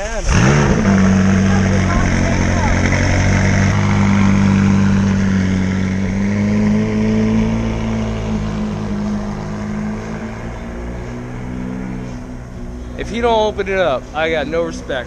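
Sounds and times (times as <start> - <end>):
car engine at low revs: 0.0 - 15.0.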